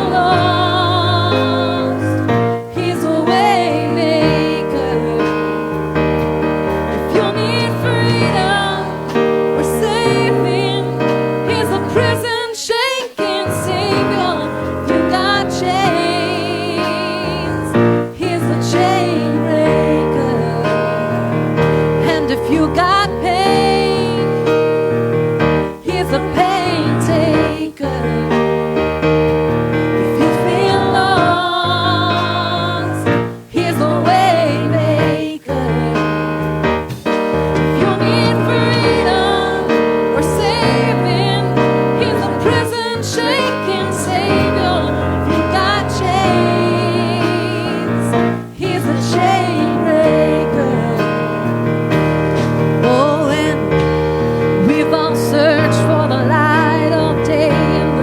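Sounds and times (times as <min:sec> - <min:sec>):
people singing with vibrato: 0:00.0 - 0:58.0
piano and keyboard chords: 0:00.0 - 0:58.0.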